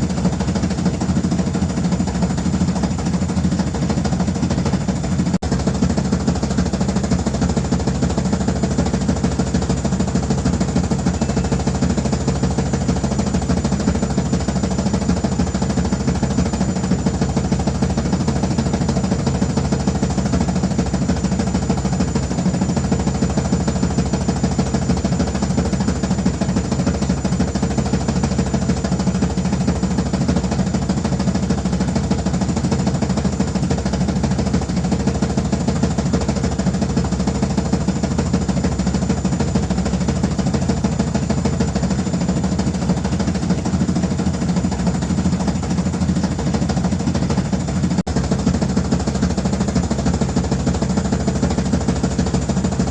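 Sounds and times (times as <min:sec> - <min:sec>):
washing machine running: 0:00.0 - 0:52.9.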